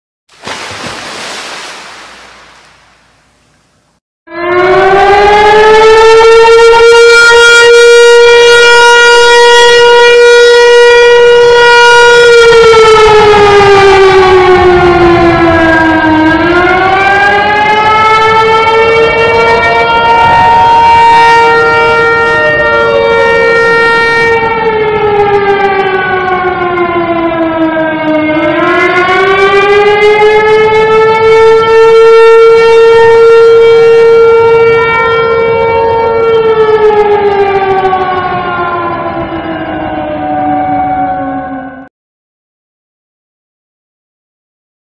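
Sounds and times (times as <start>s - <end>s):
siren wailing: 4.3s - 41.9s.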